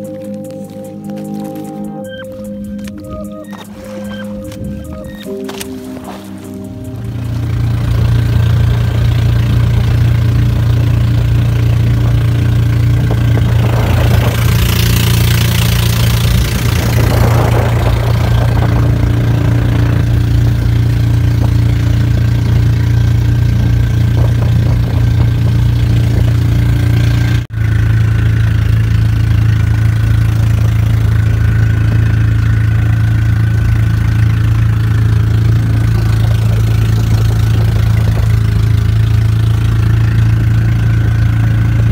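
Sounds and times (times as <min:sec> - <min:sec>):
boat engine idling: 0:00.0 - 0:41.9.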